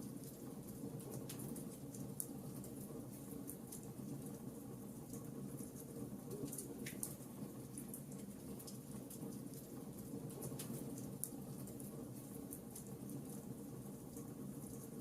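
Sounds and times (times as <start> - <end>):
fire crackles and pops: 0.1 - 4.5, 5.1 - 15.0.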